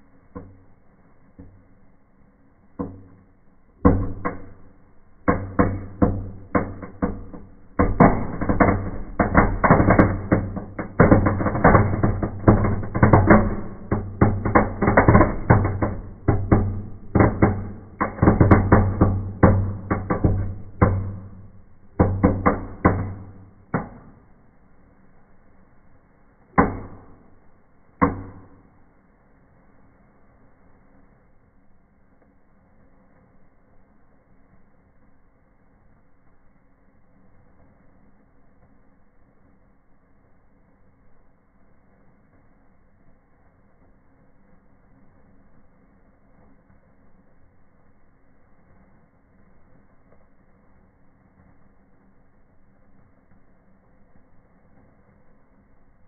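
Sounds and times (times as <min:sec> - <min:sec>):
faint fizzing sparks: 0:00.0 - 0:56.0
fireworks crackling and popping: 0:00.0 - 0:56.0.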